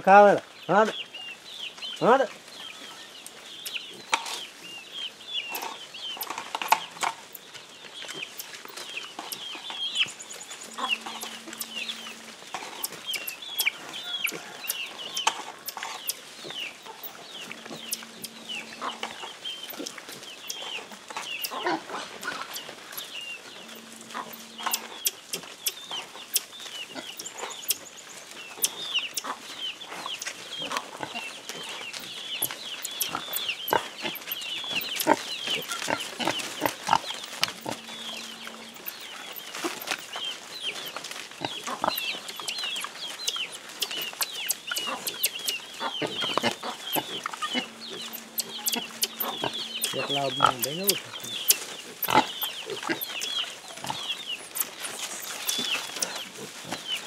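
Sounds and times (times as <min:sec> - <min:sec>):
branches rustling: 0:01.4 - 0:57.0
marmosets chirping: 0:08.1 - 0:57.0.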